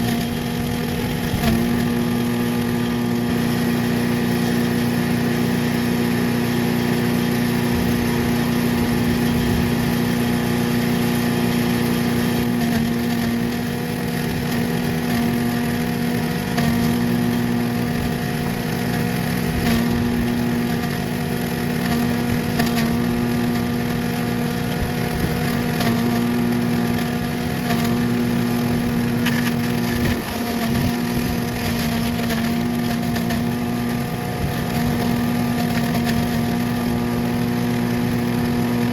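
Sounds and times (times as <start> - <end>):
chipper shredder engine running: 0.0 - 38.9.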